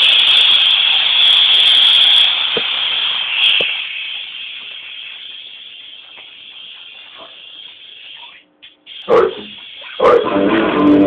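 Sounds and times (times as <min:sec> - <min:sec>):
guitar amplifier hiss: 0:00.0 - 0:11.0.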